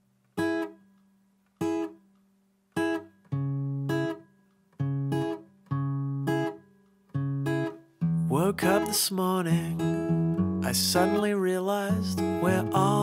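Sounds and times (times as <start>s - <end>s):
acoustic guitar strumming chords: 0.4s - 0.9s, 1.6s - 2.0s, 2.8s - 13.0s.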